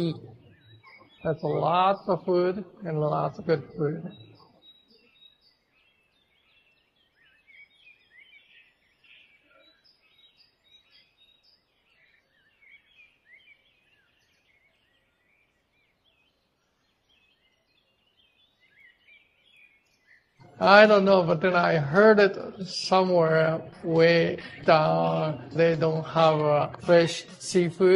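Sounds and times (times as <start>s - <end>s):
faint birds chirping: 0.0s - 27.9s.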